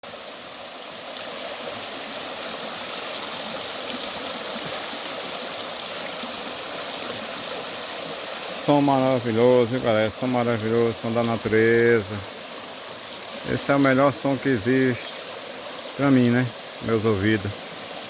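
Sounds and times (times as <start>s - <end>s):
creek water rushing and splashing: 0.0s - 18.0s.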